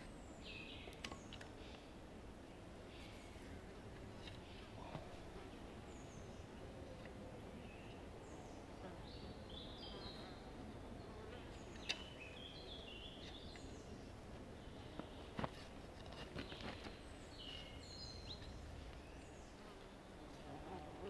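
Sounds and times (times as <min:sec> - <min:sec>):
small birds chirping: 0:02.8 - 0:20.4.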